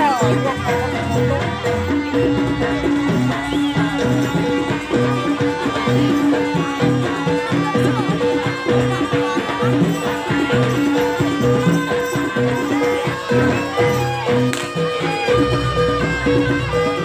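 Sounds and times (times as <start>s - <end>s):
hand drum beat: 0.0s - 17.0s
held instrument note: 0.0s - 17.0s
pitched instruments: 0.0s - 17.0s.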